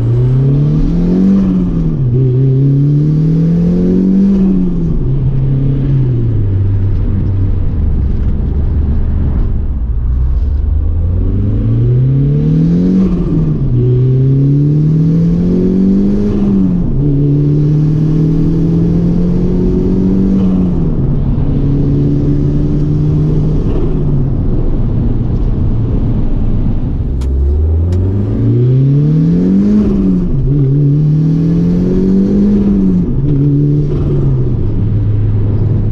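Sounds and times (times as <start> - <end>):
turbocharged engine accelerating: 0.0 - 35.9.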